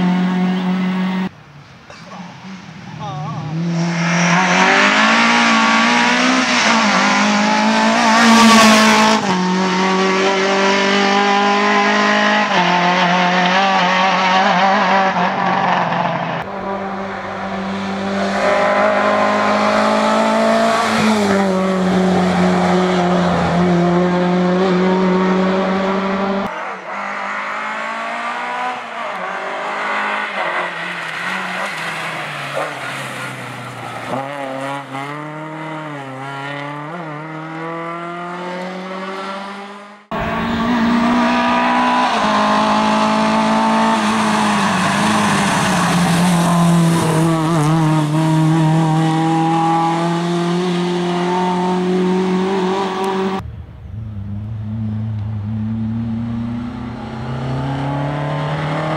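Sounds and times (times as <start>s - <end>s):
rally car engine revving: 2.2s - 58.9s.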